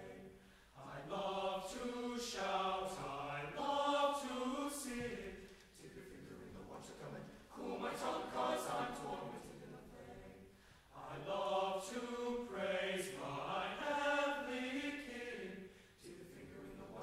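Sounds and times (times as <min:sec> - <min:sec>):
men's choir singing in harmony: 0:00.0 - 0:17.0.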